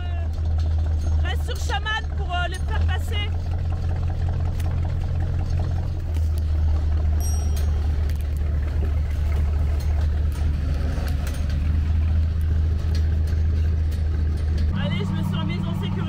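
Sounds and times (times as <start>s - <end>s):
truck diesel engine running: 0.0s - 16.0s.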